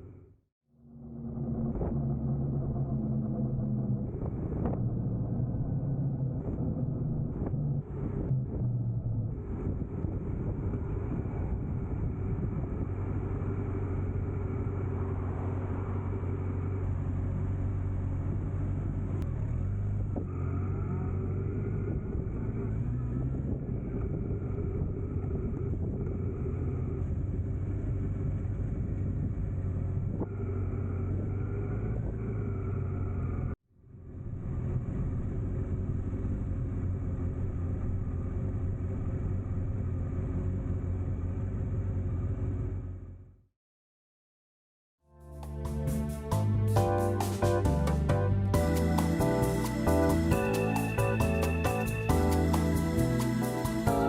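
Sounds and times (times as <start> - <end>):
road noise: 0.0 - 43.3, 45.1 - 54.0
vehicle engine running: 0.0 - 43.4, 45.2 - 54.0.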